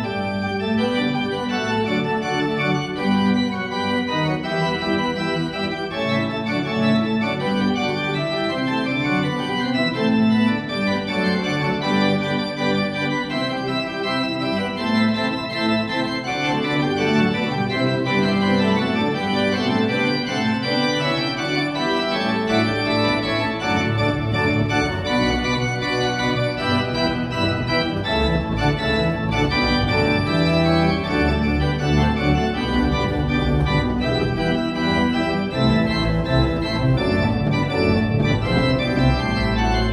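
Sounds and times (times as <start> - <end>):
deep organ pedal bass notes: 0.0 - 39.9
pipe organ playing: 0.0 - 39.9.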